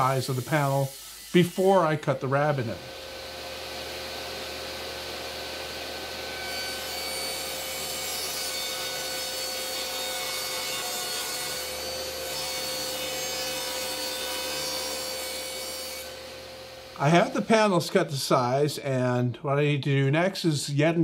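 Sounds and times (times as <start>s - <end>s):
saw motor humming: 0.0s - 17.9s
table saw cutting plywood: 0.0s - 18.0s.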